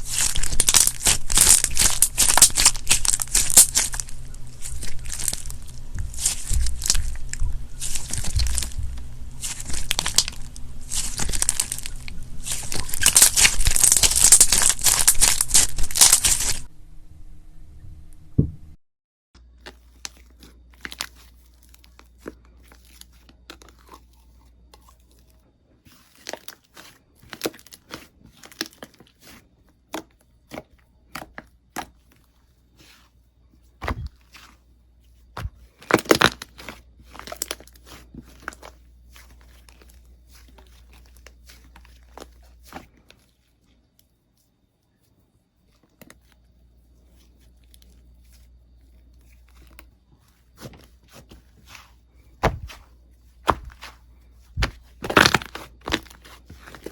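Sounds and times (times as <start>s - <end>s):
crunchy slime crackling: 0.0s - 16.7s, 19.4s - 56.9s.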